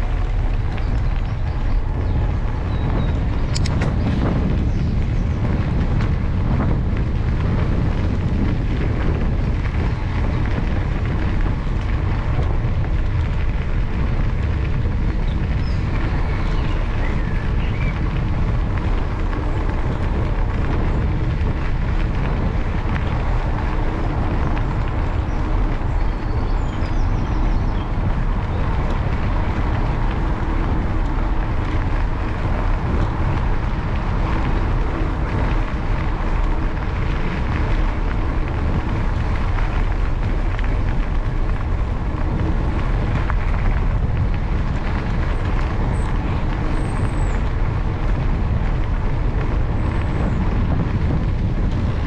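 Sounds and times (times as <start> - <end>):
bicycle tyre rumble: 0.0 - 52.0
wind buffeting microphone: 0.0 - 52.0.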